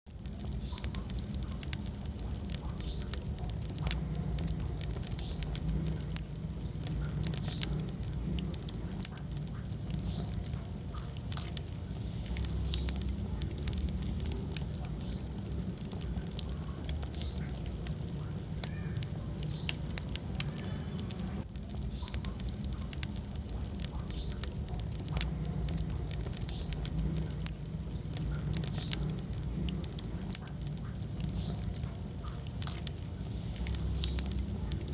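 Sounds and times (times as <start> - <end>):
low rumble of burning logs: 0.0 - 34.9
wood fire crackling and popping: 0.0 - 34.9.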